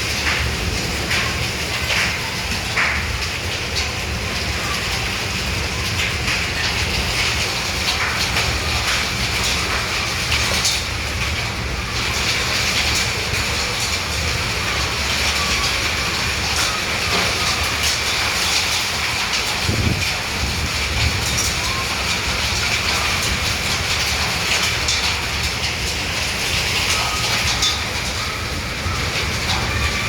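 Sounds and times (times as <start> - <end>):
hailstones ticking: 0.0 - 30.0
heavy rain hissing: 0.0 - 30.0.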